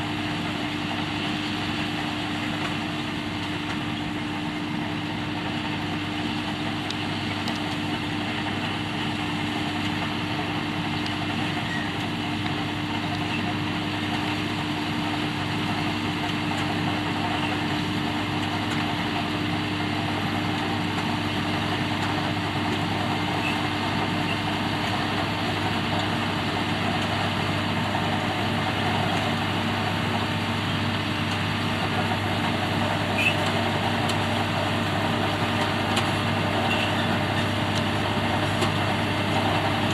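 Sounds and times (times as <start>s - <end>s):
diesel engines humming: 0.0s - 39.9s.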